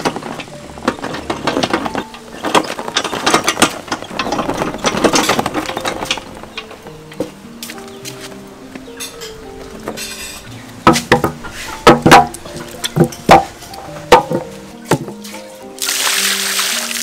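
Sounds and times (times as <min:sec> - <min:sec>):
bones rattling in hand cart: 0:00.0 - 0:15.4.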